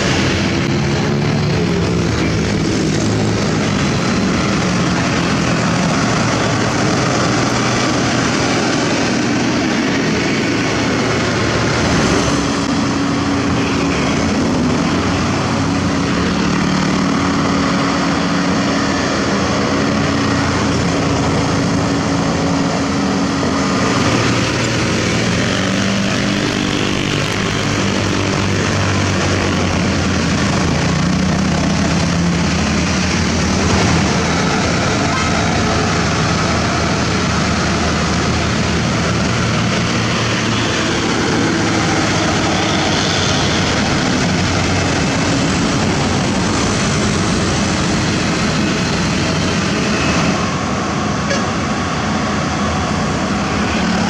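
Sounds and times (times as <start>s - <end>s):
trucks and motorcycles passing: 0.0s - 54.0s.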